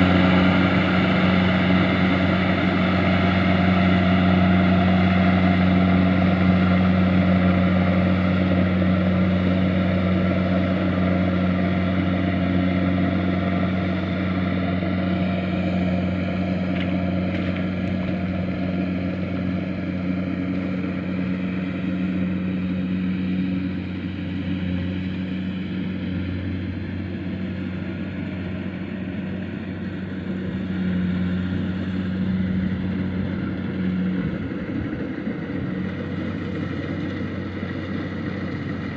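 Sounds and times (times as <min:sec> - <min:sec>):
harvester engine running: 0:00.0 - 0:38.9.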